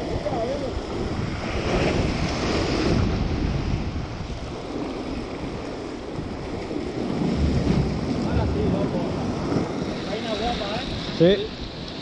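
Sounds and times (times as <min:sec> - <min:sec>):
sea surf: 0:00.0 - 0:12.0
wind on microphone: 0:00.0 - 0:12.0.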